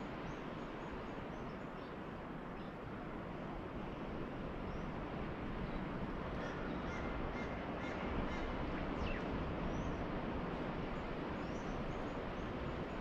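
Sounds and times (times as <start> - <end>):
gentle surf: 0.0 - 13.0.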